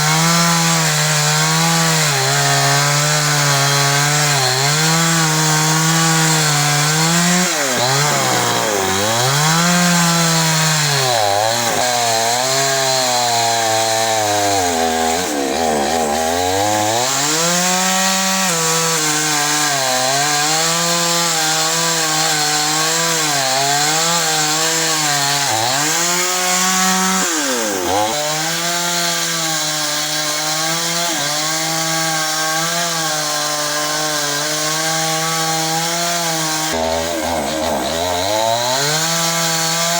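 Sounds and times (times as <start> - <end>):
chainsaw cutting through wood: 0.0 - 39.9.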